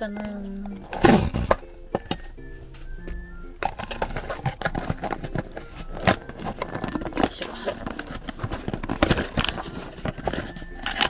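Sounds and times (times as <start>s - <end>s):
cardboard and paper rustling: 0.0s - 11.0s.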